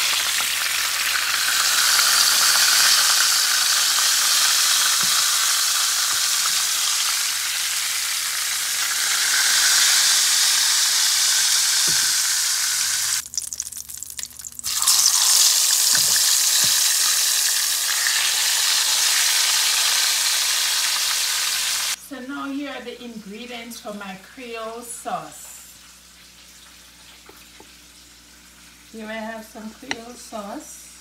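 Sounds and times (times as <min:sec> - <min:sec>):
fish sizzling in hot oil: 0:00.0 - 0:22.0, 0:25.8 - 0:29.0.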